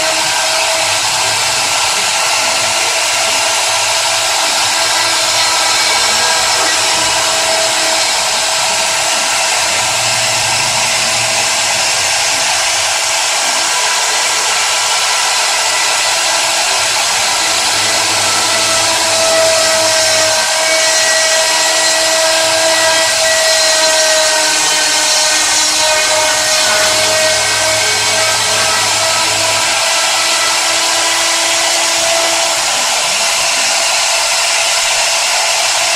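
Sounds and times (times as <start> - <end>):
router spindle whining: 0.0 - 35.9.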